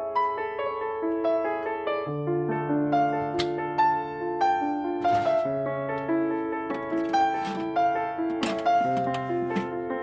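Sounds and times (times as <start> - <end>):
piano music with held notes: 0.0 - 10.0.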